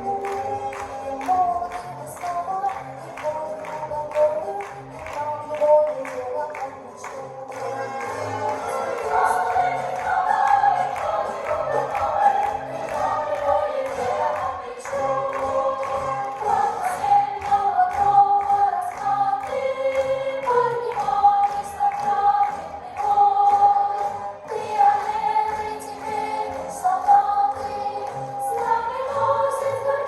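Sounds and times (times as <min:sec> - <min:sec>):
voices singing: 0:00.0 - 0:30.0.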